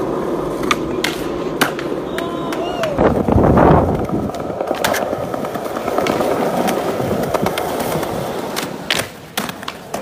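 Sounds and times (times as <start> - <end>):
skateboard wheels rolling on stone: 0.0 - 10.0.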